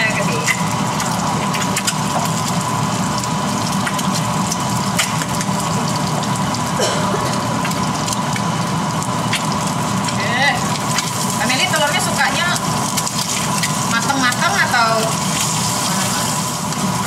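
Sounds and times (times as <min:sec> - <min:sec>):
egg sizzling in a pan: 0:00.0 - 0:17.0
range hood fan humming: 0:00.0 - 0:17.0.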